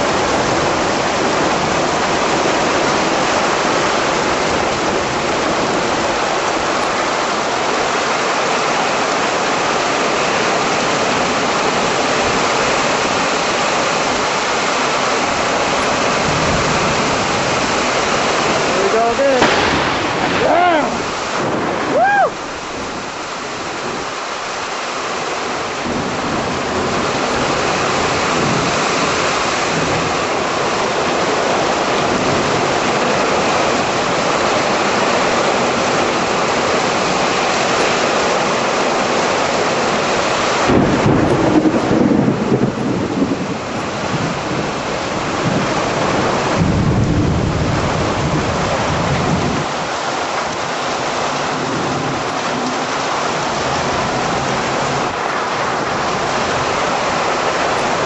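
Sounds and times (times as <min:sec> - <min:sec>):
thunder rumbling: 0:00.0 - 0:24.2, 0:25.4 - 0:58.0
heavy rain pouring: 0:00.0 - 0:58.0.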